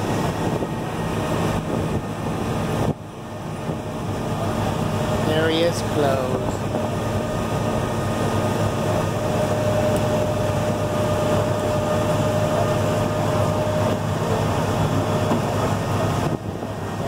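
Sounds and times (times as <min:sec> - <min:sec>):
thin steady whine: 0:00.0 - 0:17.0
tram running drone: 0:00.0 - 0:17.0.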